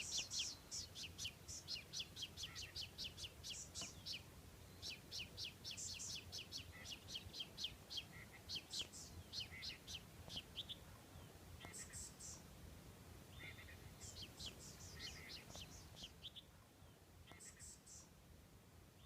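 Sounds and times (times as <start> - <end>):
bird chirping: 0.0 - 12.5, 13.3 - 18.2.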